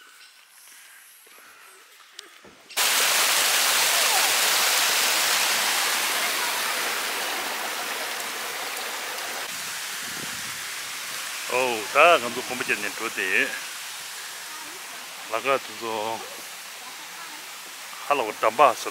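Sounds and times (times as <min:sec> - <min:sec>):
brook water rushing: 0:02.8 - 0:18.9.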